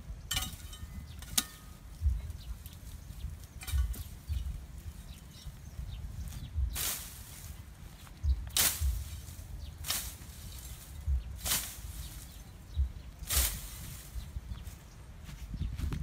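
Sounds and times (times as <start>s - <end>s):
soft low thuds: 0.0s - 16.0s.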